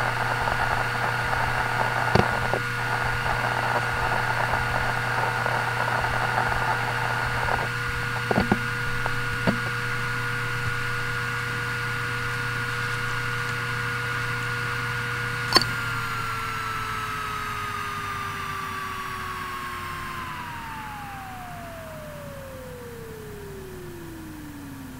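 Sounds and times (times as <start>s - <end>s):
hard drive clicks: 0.0s - 20.8s
hard drive seek chatter: 0.0s - 24.9s
hard drive spindle whine: 0.0s - 24.9s.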